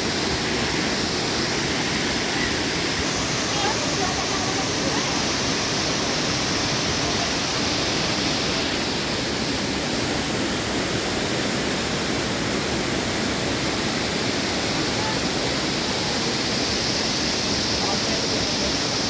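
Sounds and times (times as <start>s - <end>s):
waterfall pouring and splashing: 0.0s - 19.0s.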